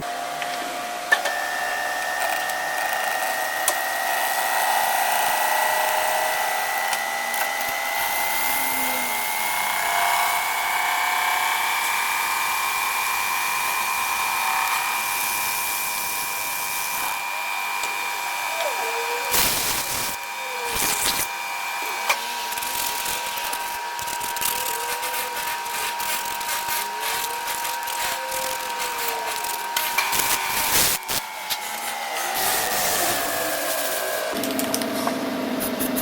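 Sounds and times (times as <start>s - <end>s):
machine tool whining: 0.0s - 36.0s.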